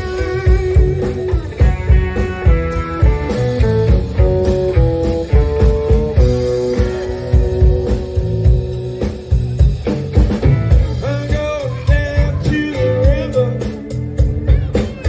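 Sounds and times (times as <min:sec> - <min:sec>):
electric guitar melody bending: 0:00.0 - 0:15.0
live blues band: 0:00.0 - 0:15.0.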